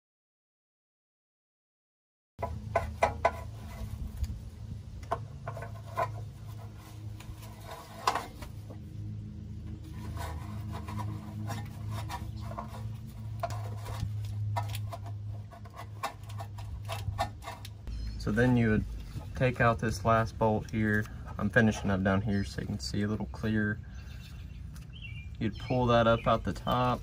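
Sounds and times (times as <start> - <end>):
low hum: 2.4 - 27.0.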